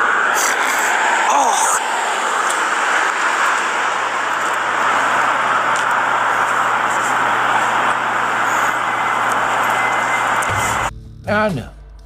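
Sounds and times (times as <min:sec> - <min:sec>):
street noise hiss: 0:00.0 - 0:10.9.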